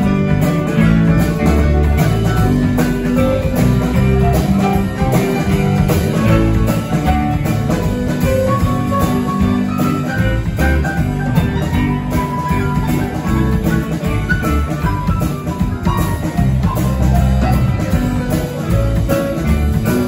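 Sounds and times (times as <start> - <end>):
live band playing: 0.0 - 20.0.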